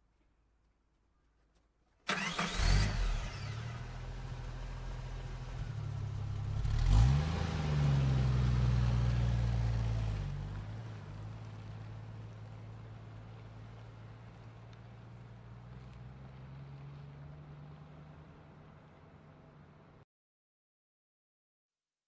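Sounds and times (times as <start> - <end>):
vehicle engine revving: 2.1 - 20.0.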